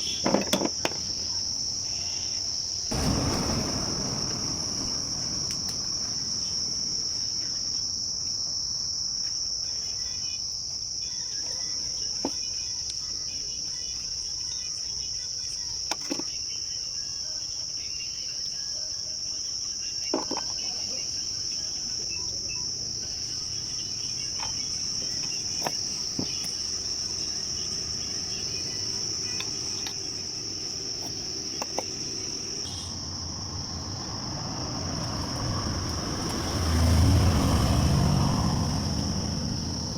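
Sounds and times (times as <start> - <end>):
insects shrilling: 0.0 - 39.9.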